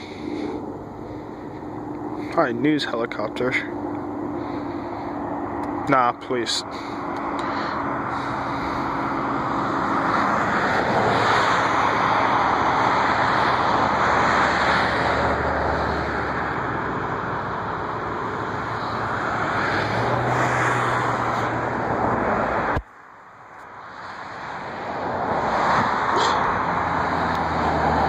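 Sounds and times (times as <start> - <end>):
airliner jet engine rush: 0.0 - 22.8
low hum: 0.0 - 24.2.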